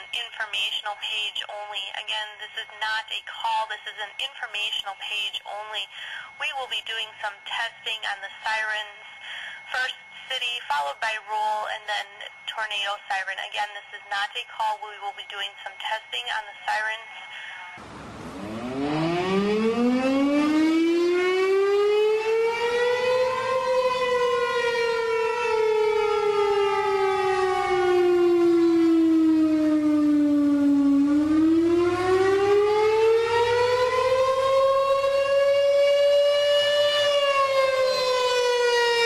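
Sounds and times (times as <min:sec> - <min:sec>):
fire siren wailing: 0:00.0 - 0:39.0.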